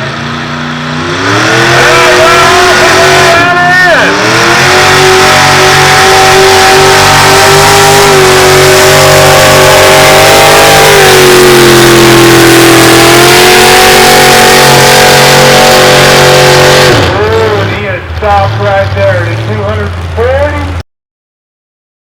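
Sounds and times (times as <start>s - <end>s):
truck engine at full throttle: 0.0s - 20.8s.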